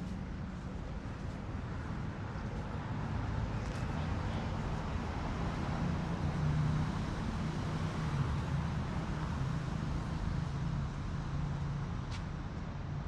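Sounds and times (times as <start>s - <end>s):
general traffic noise: 0.0s - 13.0s.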